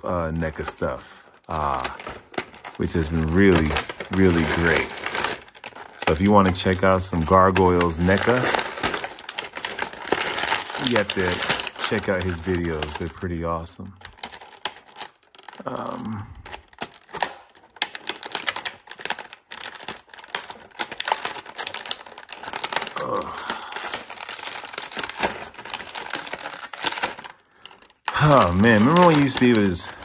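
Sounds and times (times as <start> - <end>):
plastic packaging clicks and crinkles: 0.0 - 30.0.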